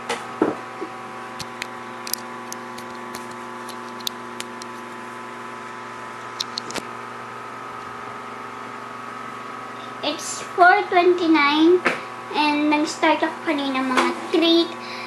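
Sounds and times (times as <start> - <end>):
hum of held tones: 0.0 - 15.0.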